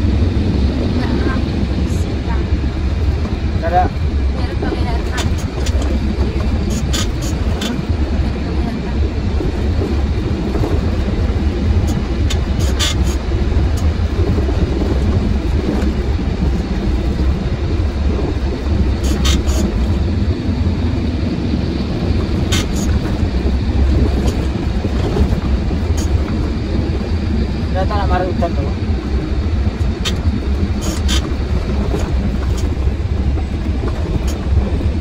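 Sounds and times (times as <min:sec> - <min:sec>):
truck engine and road drone: 0:00.0 - 0:35.0.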